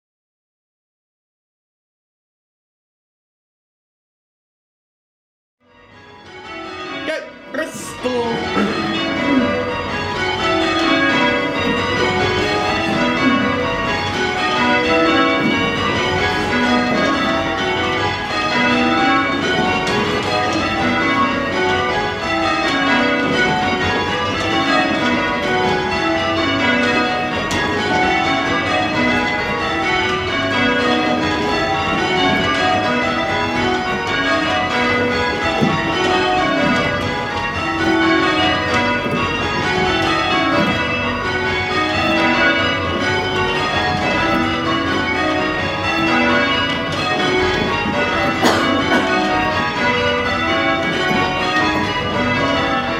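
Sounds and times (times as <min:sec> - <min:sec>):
church bells change ringing: 0:05.6 - 0:52.9.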